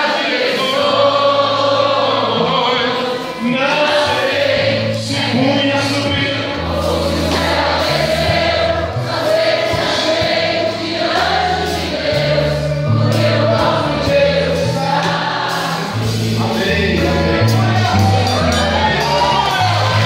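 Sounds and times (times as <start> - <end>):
choir singing gospel: 0.0 - 20.0
band with drums and bass: 0.8 - 20.0.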